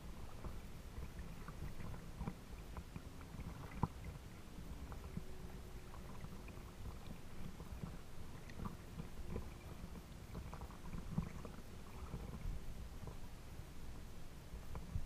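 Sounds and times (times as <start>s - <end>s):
water lapping against boat hull: 0.0s - 15.0s
soft knocks and splashes: 0.2s - 13.2s.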